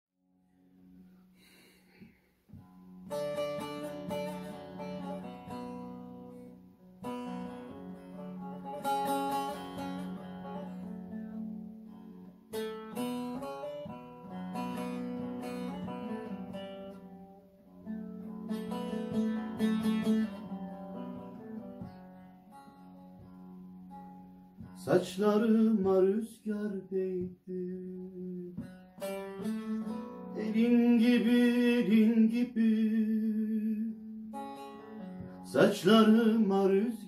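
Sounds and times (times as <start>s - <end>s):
long-necked lute playing solo: 2.6s - 26.2s, 26.9s - 37.0s.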